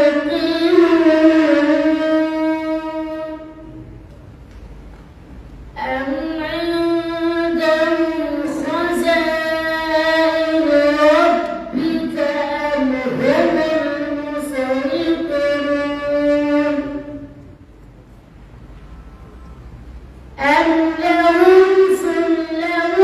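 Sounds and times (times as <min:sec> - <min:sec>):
boy chanting melodically: 0:00.0 - 0:04.2, 0:05.8 - 0:17.7, 0:20.3 - 0:23.0.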